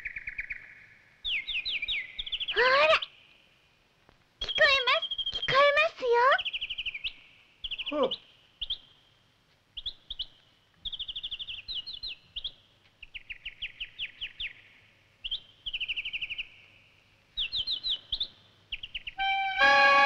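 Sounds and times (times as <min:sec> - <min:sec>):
songbird singing: 0:00.0 - 0:03.8, 0:04.4 - 0:20.0.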